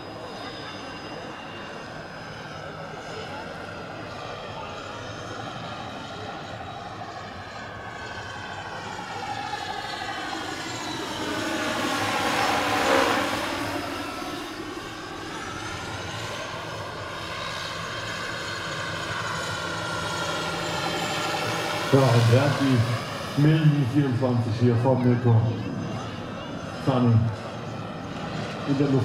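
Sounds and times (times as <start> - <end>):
model helicopter flying past: 0.0 - 29.0.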